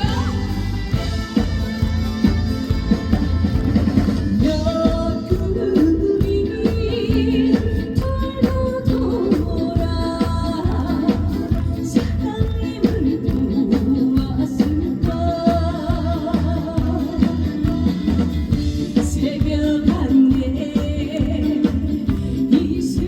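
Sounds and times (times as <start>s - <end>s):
live band music: 0.0s - 23.0s
steady drum beat: 0.0s - 23.0s
person singing: 4.4s - 23.0s.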